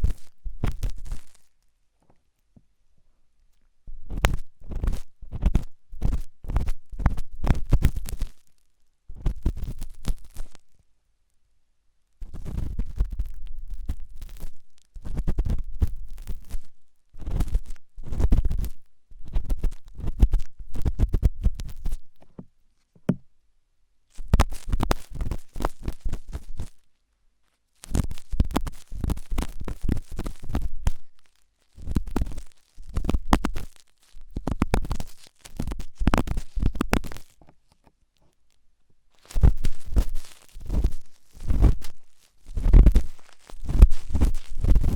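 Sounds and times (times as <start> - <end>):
ear pick scratching inside ear: 0.0 - 1.5, 4.1 - 8.4, 9.2 - 10.6, 12.2 - 23.2, 24.2 - 26.8, 27.8 - 37.6, 39.1 - 44.9.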